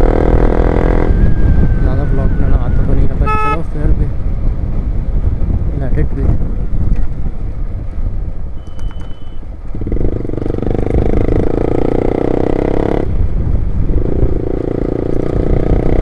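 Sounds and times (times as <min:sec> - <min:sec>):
motorcycle engine drone: 0:00.0 - 0:08.6, 0:09.3 - 0:16.0
wind rumbling on microphone: 0:00.0 - 0:16.0.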